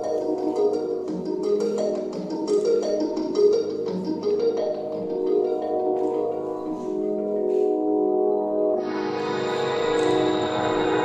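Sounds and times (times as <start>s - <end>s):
music with sustained chords: 0.0s - 11.0s.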